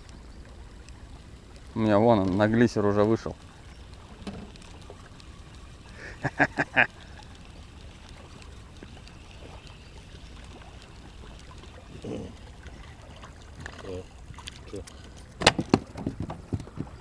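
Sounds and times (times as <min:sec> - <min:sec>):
river water around boat: 0:00.0 - 0:17.0.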